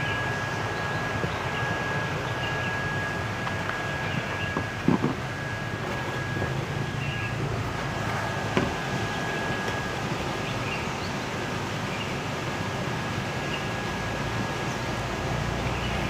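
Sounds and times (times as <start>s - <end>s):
faint thin whine: 0.0s - 16.0s
low hum: 0.0s - 16.0s.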